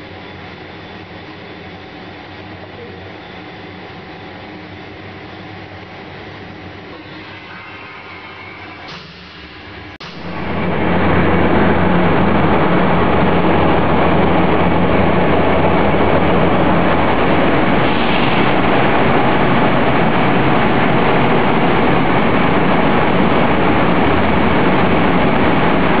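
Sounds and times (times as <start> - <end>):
industrial machinery running: 0.0 - 26.0
low hum: 4.6 - 26.0.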